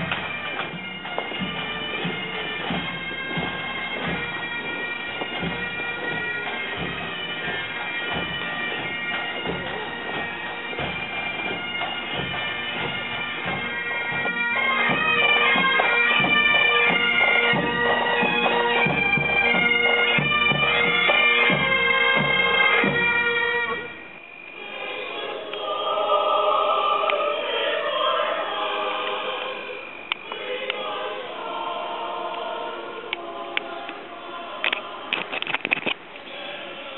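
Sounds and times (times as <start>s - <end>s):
drum strokes: 0.0s - 33.9s
bagpipe band playing: 0.0s - 35.8s
voices singing: 0.0s - 36.9s.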